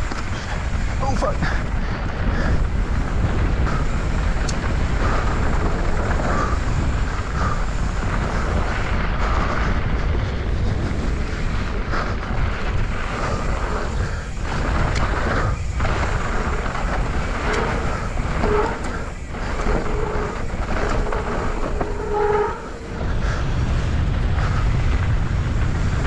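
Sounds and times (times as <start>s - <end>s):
bike tyres rolling on dirt: 0.0s - 26.0s
wind buffeting microphone: 0.0s - 26.0s.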